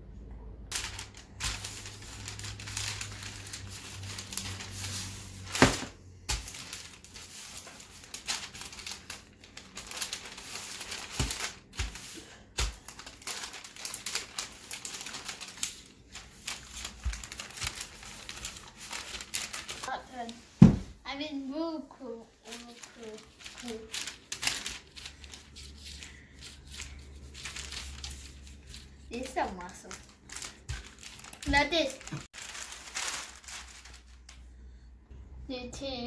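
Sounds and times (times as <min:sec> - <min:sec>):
baking paper crinkling: 0:00.7 - 0:20.6, 0:22.0 - 0:34.5.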